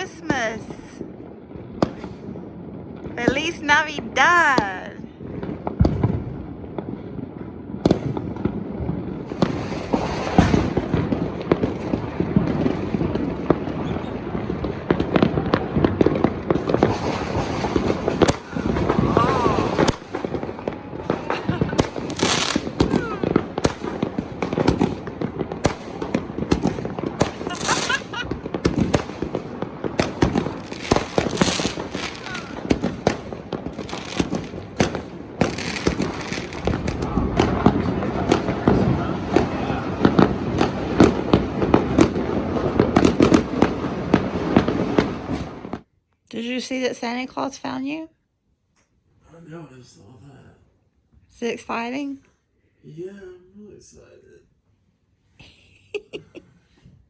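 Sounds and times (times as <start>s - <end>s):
fireworks and firecrackers crackling: 0.0s - 45.9s.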